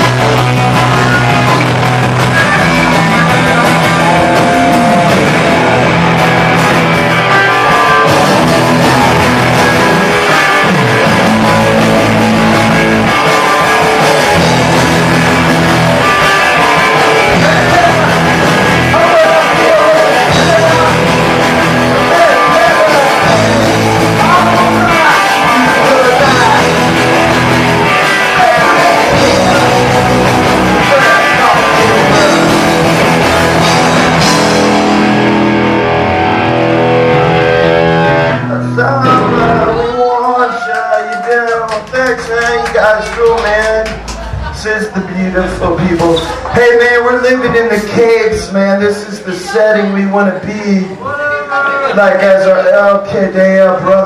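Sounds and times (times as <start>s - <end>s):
punk rock band with electric guitar: 0.0s - 50.5s.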